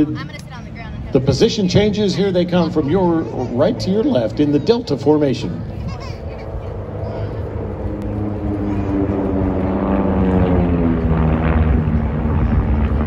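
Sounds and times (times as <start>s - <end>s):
propeller aircraft droning past: 0.0s - 13.0s.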